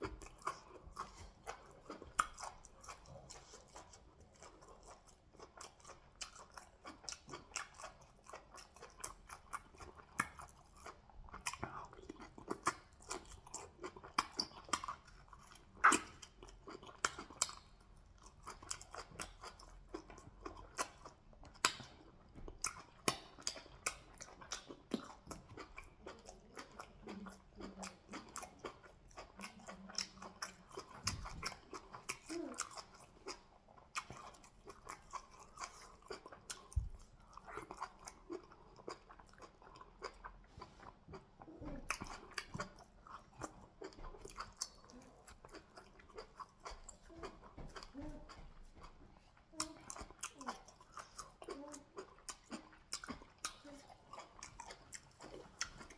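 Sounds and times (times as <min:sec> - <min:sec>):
wet sticky chewing: 0:00.0 - 0:55.9.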